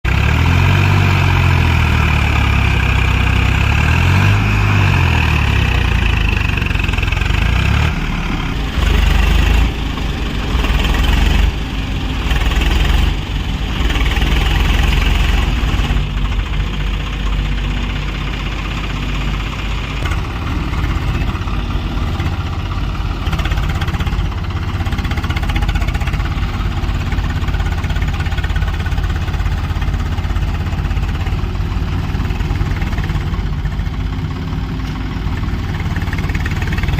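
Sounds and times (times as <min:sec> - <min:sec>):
heavy diesel engine idling: 0:00.0 - 0:36.9.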